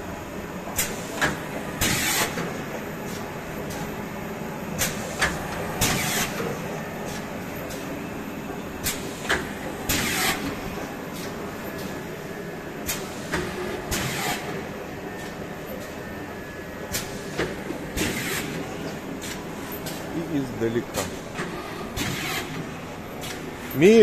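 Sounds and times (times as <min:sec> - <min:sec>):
printing machine hum: 0:00.0 - 0:24.0.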